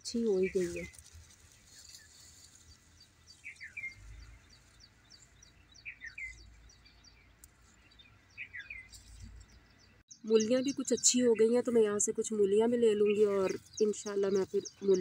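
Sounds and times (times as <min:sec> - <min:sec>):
high bird chirping: 0:00.0 - 0:15.0.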